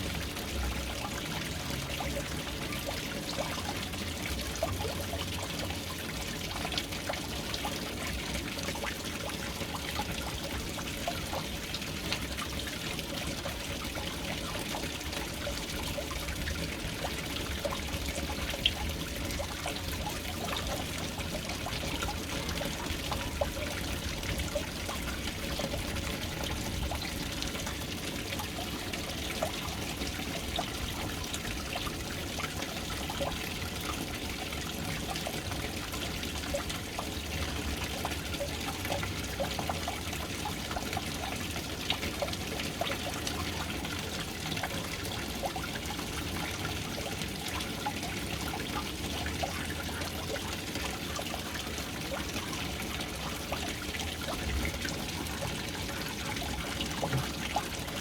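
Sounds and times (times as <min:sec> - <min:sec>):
water pouring into a tank: 0:00.0 - 0:58.0.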